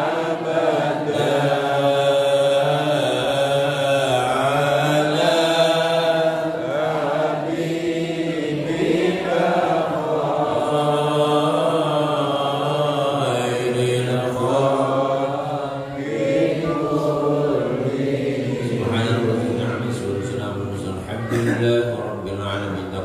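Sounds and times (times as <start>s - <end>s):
men chanting a prayer: 0.0s - 23.0s.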